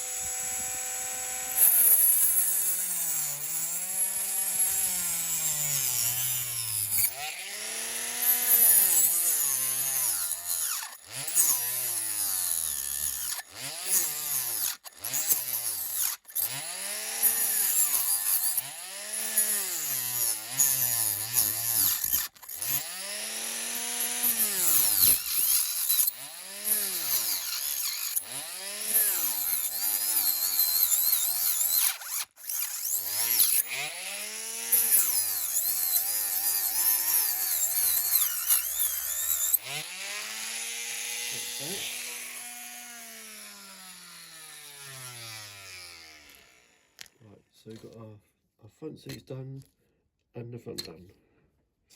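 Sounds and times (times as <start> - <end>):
rotary tool cutting metal: 0.0 - 47.2.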